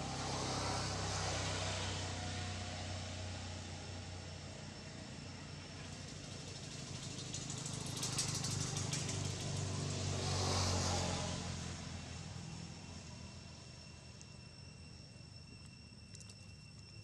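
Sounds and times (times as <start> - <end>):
motor vehicle passing by: 0.0 - 15.1.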